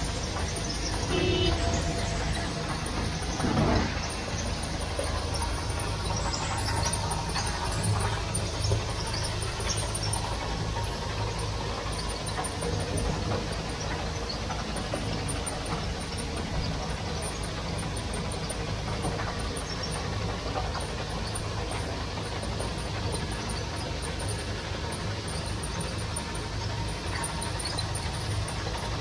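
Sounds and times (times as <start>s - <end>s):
low machine drive hum: 0.0s - 29.0s.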